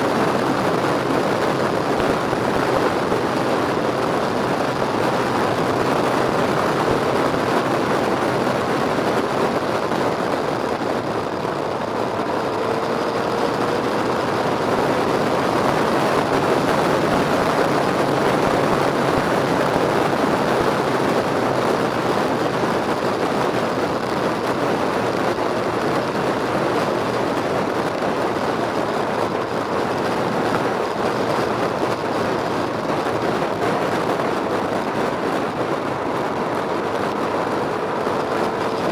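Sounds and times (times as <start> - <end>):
moving vehicle noise: 0.0 - 38.9.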